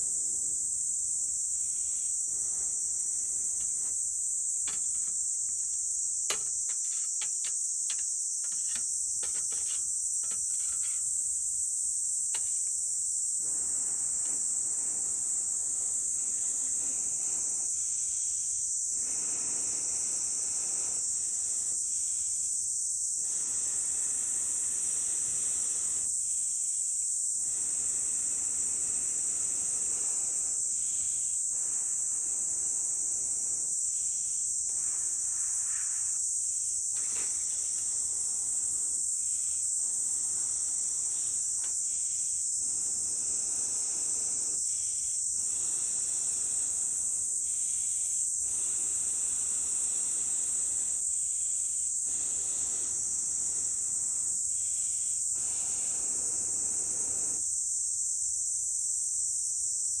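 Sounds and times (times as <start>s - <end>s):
insect chorus drone: 0.0s - 60.0s.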